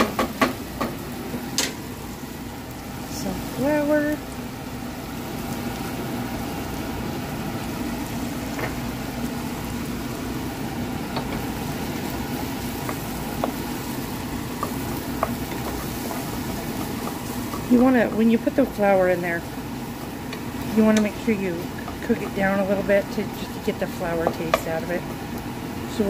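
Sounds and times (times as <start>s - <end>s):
steady low hum: 0.0s - 26.0s
vegetables sizzling in fat: 0.0s - 26.0s.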